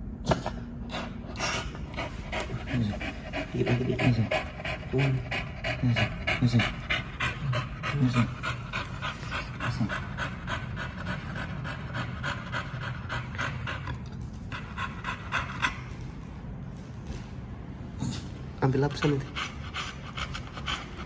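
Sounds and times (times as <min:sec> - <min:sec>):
dog panting fast: 0:00.9 - 0:16.2, 0:18.0 - 0:21.0.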